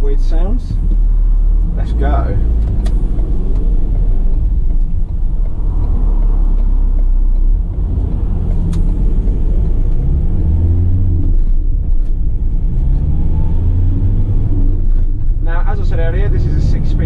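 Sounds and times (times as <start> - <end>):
diesel van engine accelerating: 0.0 - 17.0.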